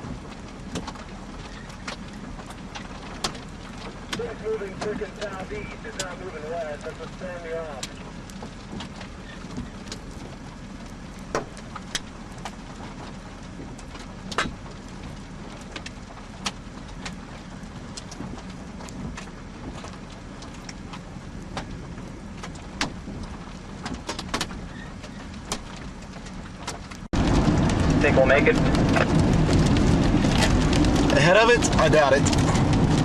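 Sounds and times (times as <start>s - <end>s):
car engine hum inside cabin: 0.0s - 33.0s.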